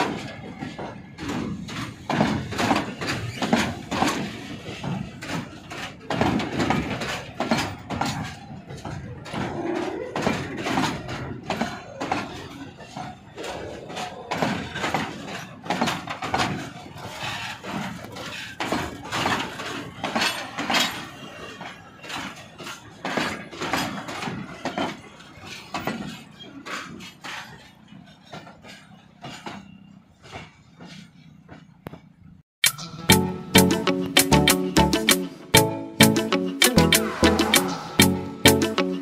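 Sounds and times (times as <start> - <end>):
freight wagons rolling and clanking: 0.0 - 32.4.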